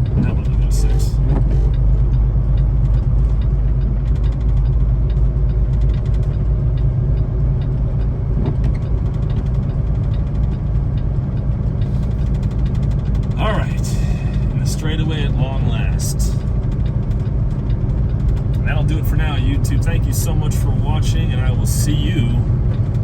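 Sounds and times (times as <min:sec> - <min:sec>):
truck diesel engine droning: 0:00.0 - 0:23.0
faint rapid ticking: 0:00.2 - 0:23.0.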